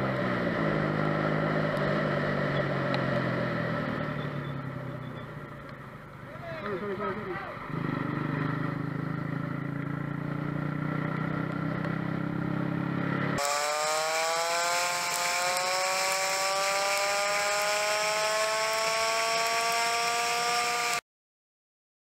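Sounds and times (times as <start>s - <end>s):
high-pitched engine whine: 0.0s - 21.0s
vehicle engine and road noise: 0.0s - 21.0s.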